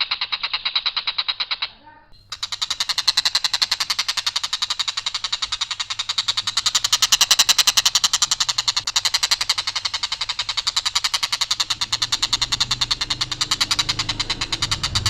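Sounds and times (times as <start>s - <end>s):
kingfisher rattling call: 0.0s - 15.0s.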